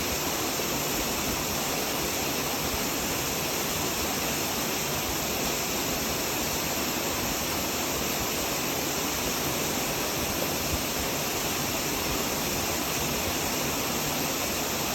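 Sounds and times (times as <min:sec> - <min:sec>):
flowing water rushing: 0:00.0 - 0:14.9.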